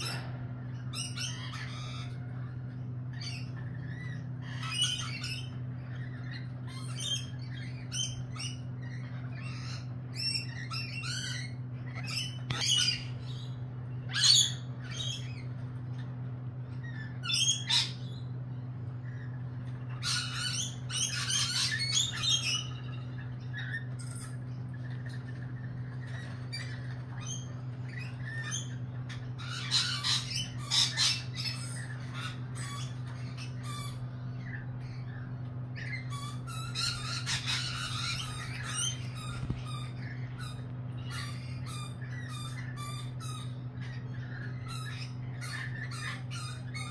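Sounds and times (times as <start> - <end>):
lorikeets screeching: 0.0 - 46.9
low hum: 0.0 - 46.9.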